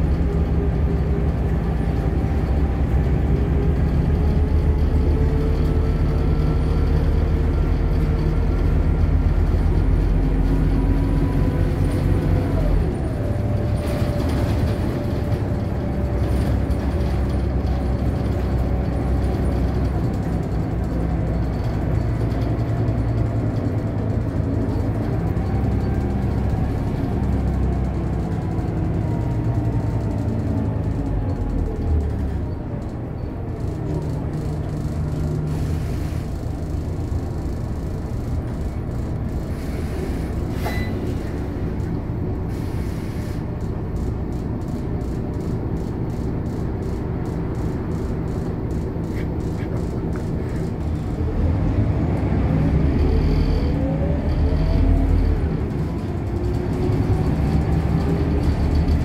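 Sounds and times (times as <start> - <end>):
bus engine running: 0.0 - 59.0
road noise: 0.0 - 59.0.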